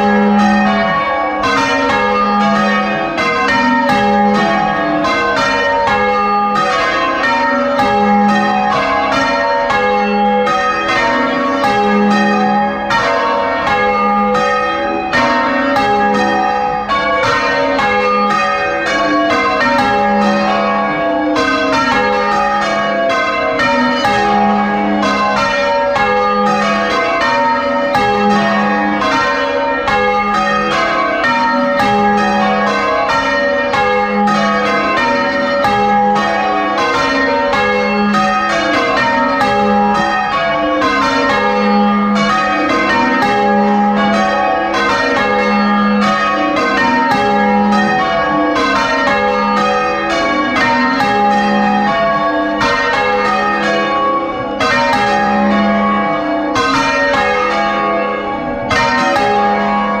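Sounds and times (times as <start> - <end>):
church bells change-ringing: 0.0 - 60.0.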